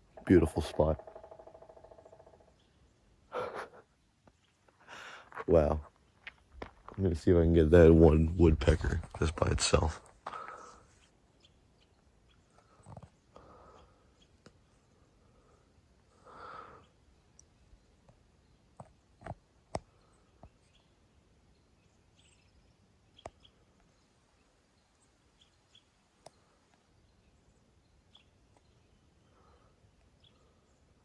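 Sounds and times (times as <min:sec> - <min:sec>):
small birds chirping: 0:00.0 - 0:08.0, 0:08.6 - 0:31.0.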